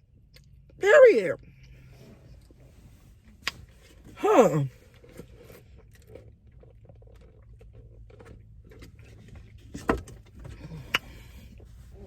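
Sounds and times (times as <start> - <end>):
faint chewing and mouth sounds: 0.0 - 0.8, 1.4 - 12.0.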